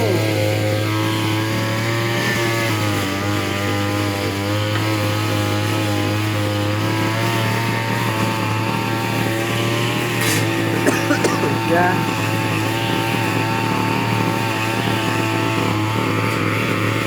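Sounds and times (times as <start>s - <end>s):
small motor droning: 0.0s - 17.0s.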